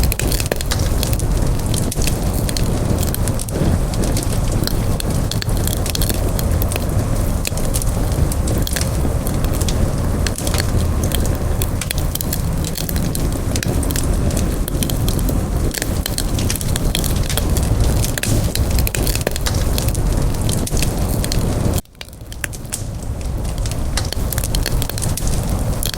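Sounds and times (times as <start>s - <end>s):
burning wood crackling and popping: 0.0s - 25.9s
rush of flames: 0.0s - 25.9s.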